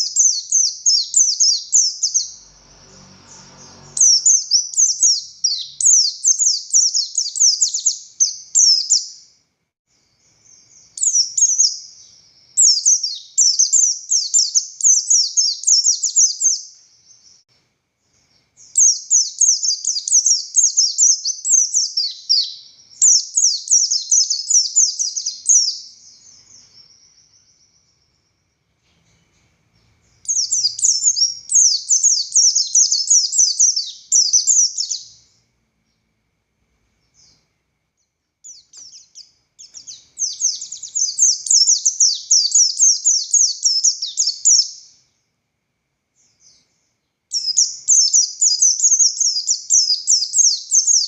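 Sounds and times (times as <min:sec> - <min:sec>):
bird singing fast falling chirps: 0:00.0 - 0:09.3, 0:10.2 - 0:17.4, 0:18.6 - 0:28.6, 0:30.1 - 0:35.3, 0:38.5 - 0:44.9, 0:47.3 - 0:51.0.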